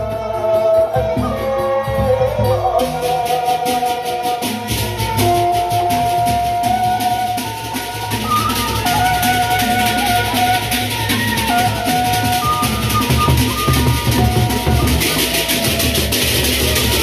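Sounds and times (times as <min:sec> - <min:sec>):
bamboo flute melody: 0:00.0 - 0:17.0
large barrel drums: 0:00.9 - 0:17.0.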